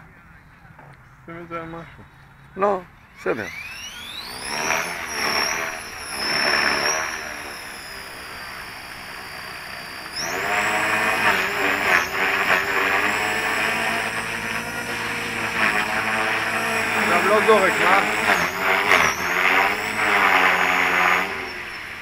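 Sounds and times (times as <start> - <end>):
electric motors whining: 1.6 - 22.0.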